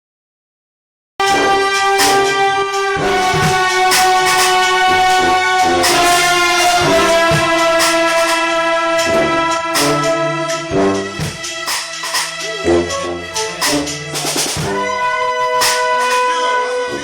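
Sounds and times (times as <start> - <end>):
bass line: 1.2 - 16.0
drum and cymbal hits: 1.2 - 16.3
horns sustained notes: 1.2 - 17.0.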